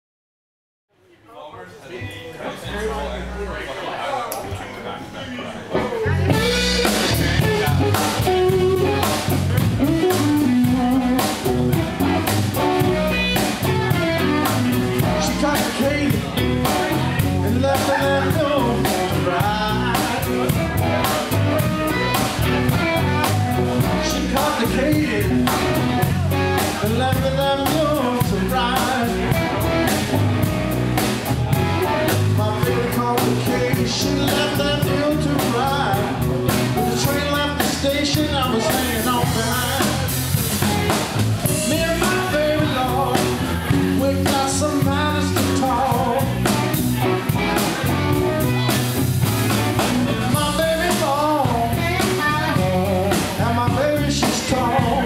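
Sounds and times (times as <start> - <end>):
blues-rock band playing: 5.8 - 55.0
man singing: 6.0 - 30.2, 31.7 - 48.8, 49.5 - 55.0.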